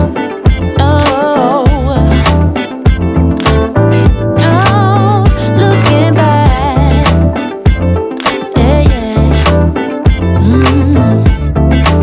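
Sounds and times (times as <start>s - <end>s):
song with steady beat: 0.0s - 12.0s.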